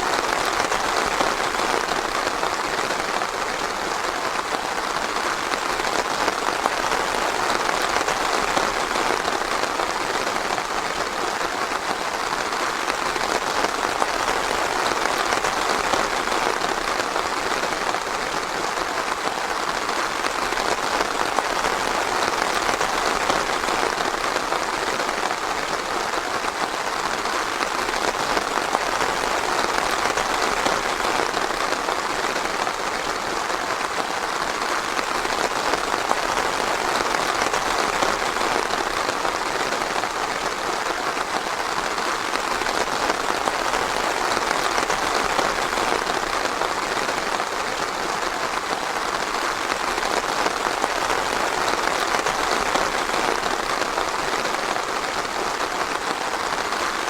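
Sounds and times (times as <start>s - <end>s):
rain on leaves: 0.0s - 57.0s.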